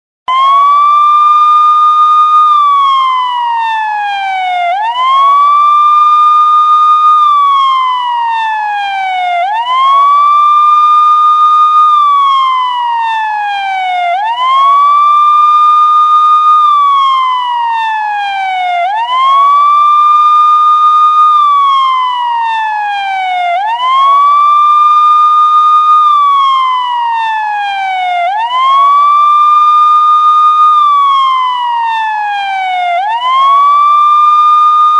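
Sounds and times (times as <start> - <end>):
police siren wailing: 0.3 - 34.9.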